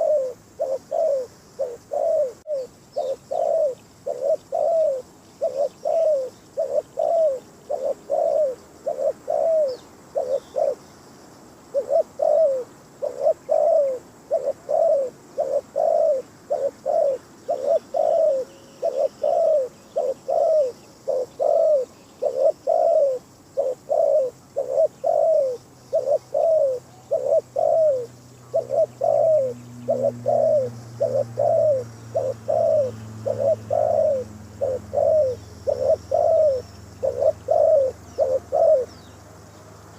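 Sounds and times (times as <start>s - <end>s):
dove cooing: 0.0s - 10.8s, 11.7s - 39.2s.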